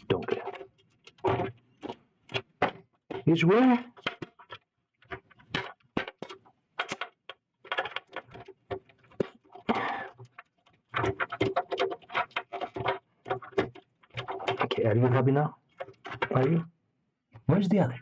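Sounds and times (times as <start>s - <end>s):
small hard objects rummaged through: 0.0s - 16.7s.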